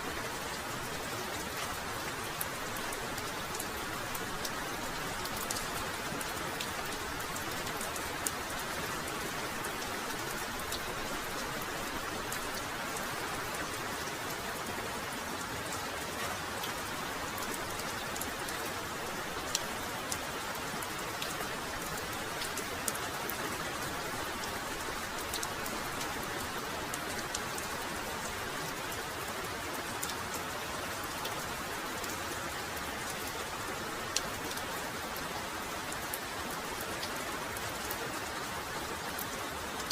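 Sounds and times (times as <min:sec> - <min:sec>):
heavy rainfall: 0:00.0 - 0:39.9
raindrops ticking close by: 0:00.0 - 0:39.9.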